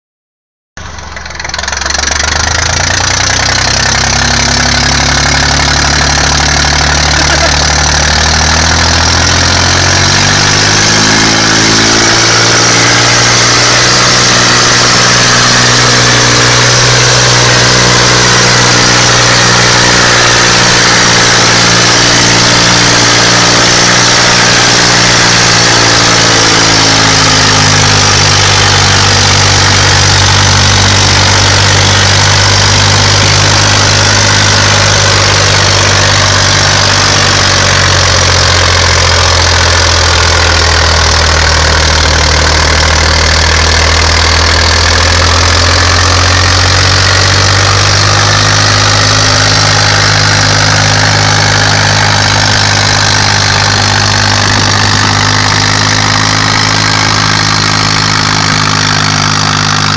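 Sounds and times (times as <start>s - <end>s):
tractor diesel engine revving: 0.8s - 59.9s.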